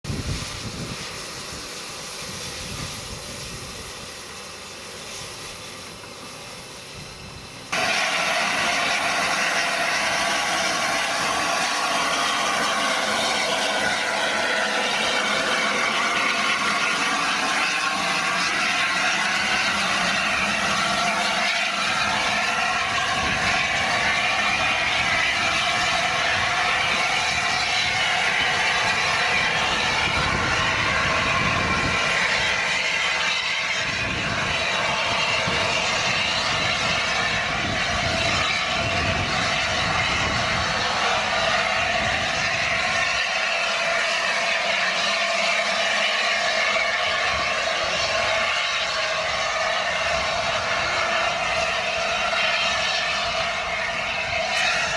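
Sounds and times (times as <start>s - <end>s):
steam locomotive hissing steam: 0.0s - 54.9s.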